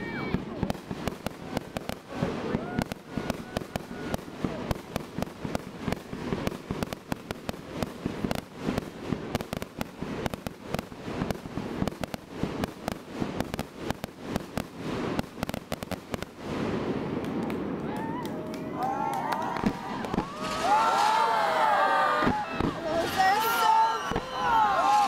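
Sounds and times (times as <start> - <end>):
fireworks popping and banging: 0.0 - 25.0.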